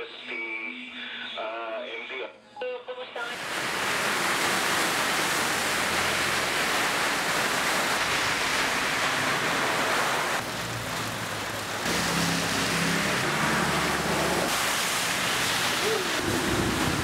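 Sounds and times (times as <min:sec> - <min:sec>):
heavy rain and wind rushing: 0:03.3 - 0:17.0.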